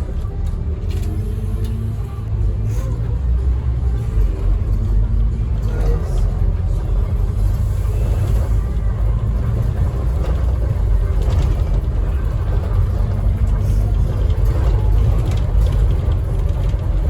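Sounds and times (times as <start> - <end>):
bus engine and road rumble: 0.0 - 17.0
low hum: 0.0 - 17.0.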